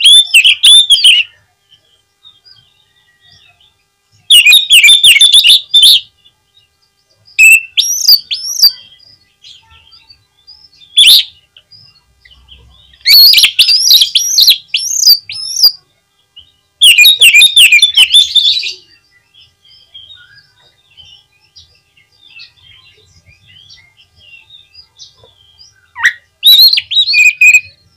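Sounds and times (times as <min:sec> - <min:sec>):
bird singing whistled notes: 0:00.0 - 0:27.9.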